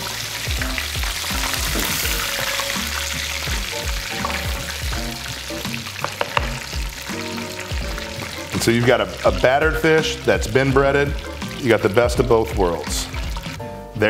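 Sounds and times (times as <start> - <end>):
hot oil sizzling in a skillet: 0.0 - 13.6
background music with steady beat: 0.0 - 14.0.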